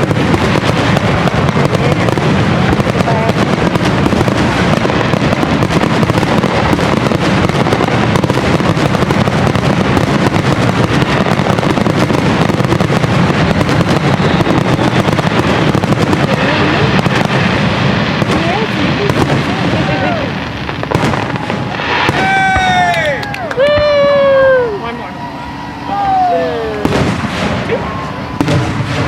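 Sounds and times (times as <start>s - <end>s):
fireworks popping and crackling: 0.0s - 25.0s, 26.5s - 29.0s.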